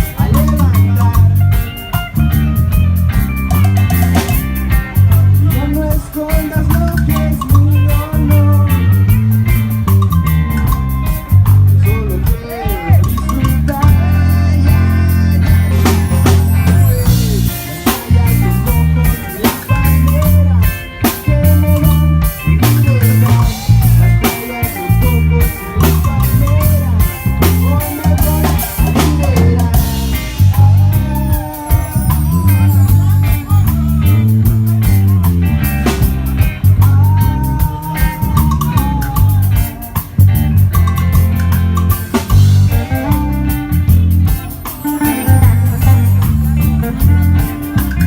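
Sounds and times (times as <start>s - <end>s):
bass line: 0.0s - 48.0s
drum kit beat: 0.0s - 48.0s
guitar lead line: 0.0s - 48.0s.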